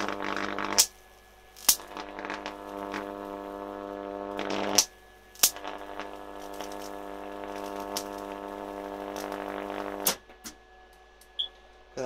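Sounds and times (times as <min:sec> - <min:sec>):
electric arc cracking: 0:00.0 - 0:10.6
electric arc buzzing: 0:00.0 - 0:11.4.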